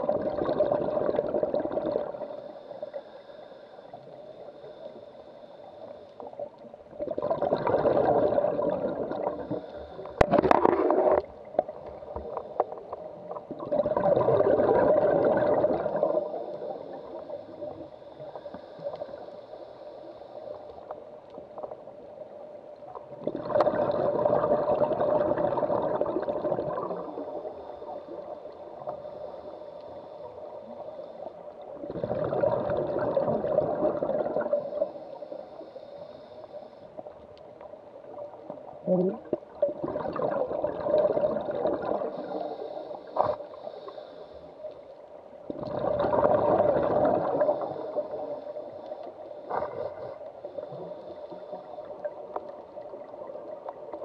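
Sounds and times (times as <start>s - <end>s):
exhaled air bubbling: 0.0s - 3.0s, 5.7s - 19.3s, 22.8s - 36.4s, 37.0s - 44.1s, 45.4s - 54.0s.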